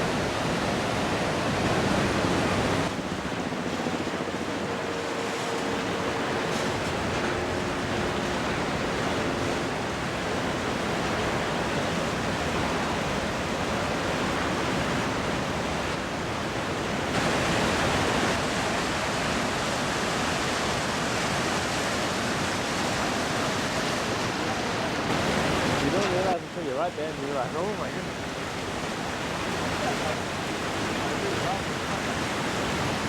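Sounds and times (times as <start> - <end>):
waterfall roar: 0.0 - 33.0.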